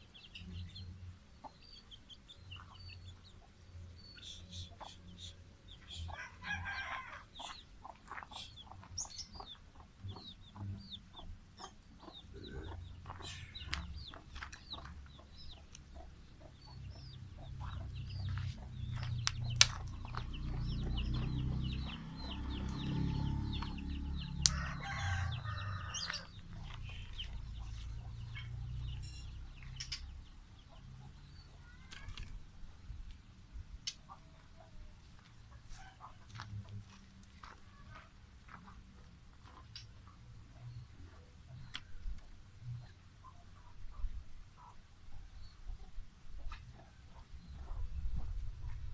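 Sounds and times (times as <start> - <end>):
birds chirping and clucking: 0.0 - 48.9.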